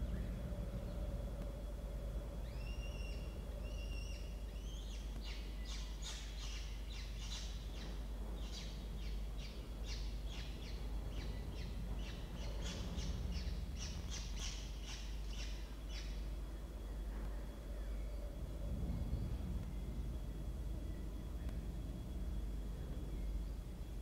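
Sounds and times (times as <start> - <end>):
low hum: 0.0 - 6.0, 6.7 - 24.0.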